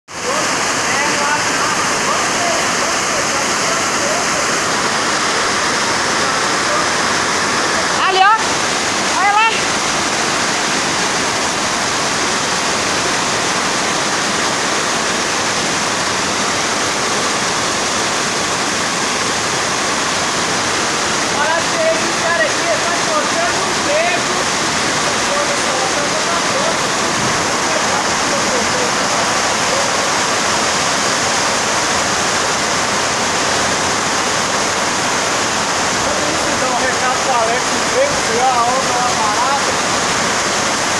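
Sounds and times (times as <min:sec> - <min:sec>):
floodwater rushing down a street: 0:00.1 - 0:40.9
heavy rain pouring: 0:00.1 - 0:40.9.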